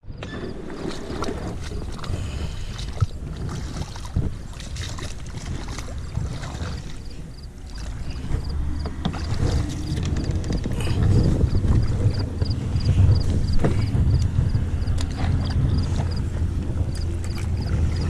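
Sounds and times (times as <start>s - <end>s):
wind on microphone: 0.1s - 18.0s.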